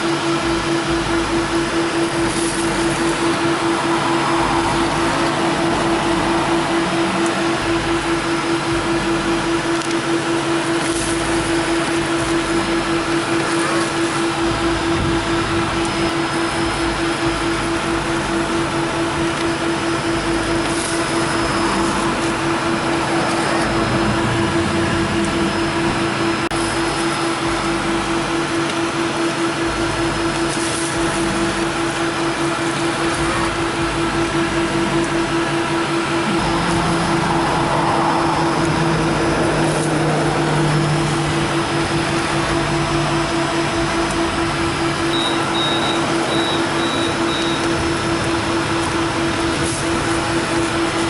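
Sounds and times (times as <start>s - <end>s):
car wash machinery running: 0.0s - 51.0s.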